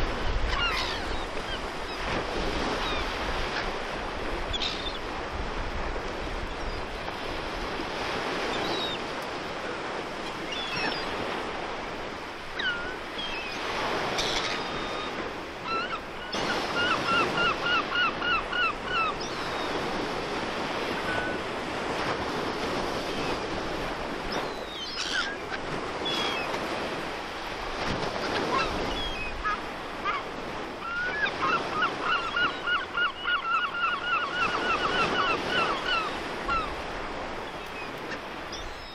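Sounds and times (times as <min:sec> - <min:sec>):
sea waves washing on shore: 0:00.0 - 0:38.9
seabirds calling: 0:00.5 - 0:05.2, 0:05.8 - 0:38.9.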